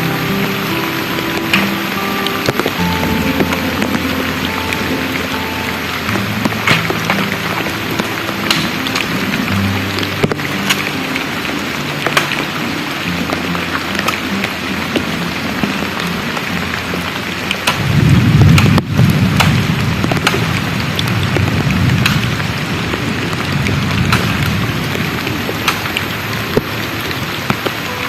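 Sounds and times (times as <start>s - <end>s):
thunder rumble: 0.0s - 27.8s
heavy rain falling: 0.0s - 28.0s.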